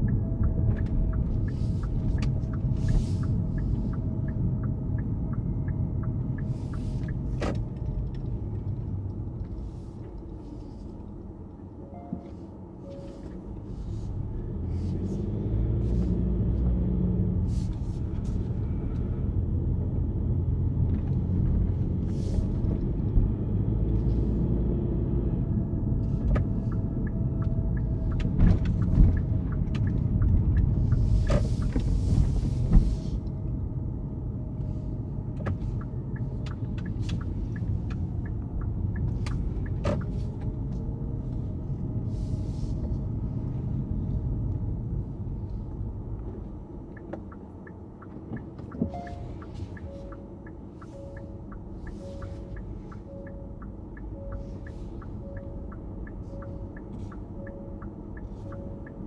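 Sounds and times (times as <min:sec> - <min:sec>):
car interior rumble: 0:00.0 - 0:59.0.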